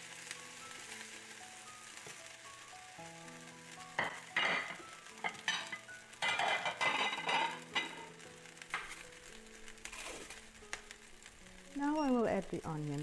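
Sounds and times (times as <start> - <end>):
hot oil sizzling in a frying pan: 0.0 - 13.0
soft background music: 0.0 - 13.0.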